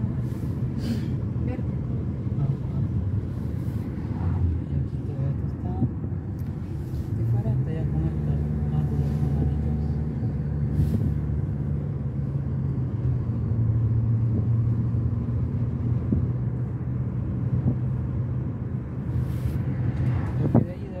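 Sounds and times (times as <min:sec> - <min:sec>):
car engine and tyre drone: 0:00.0 - 0:21.0.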